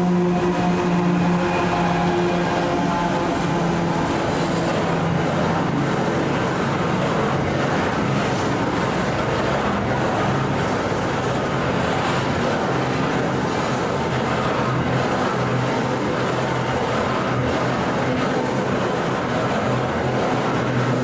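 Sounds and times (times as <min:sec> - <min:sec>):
continuous rushing noise: 0:00.0 - 0:21.0
locomotive engine drone: 0:00.0 - 0:21.0.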